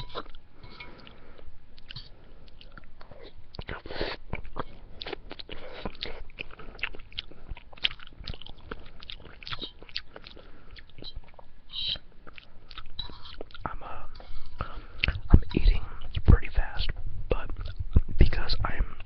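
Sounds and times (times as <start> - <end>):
person chewing spaghetti: 0.0 - 16.3.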